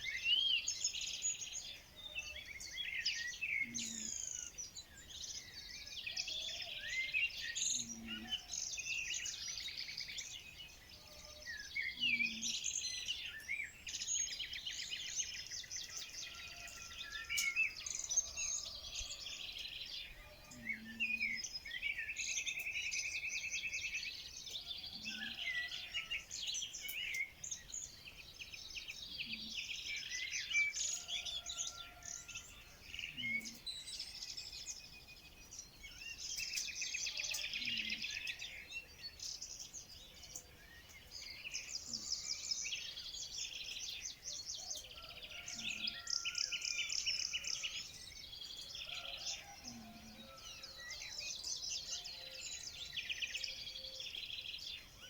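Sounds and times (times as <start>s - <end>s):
birds singing and calling: 0.0s - 55.0s.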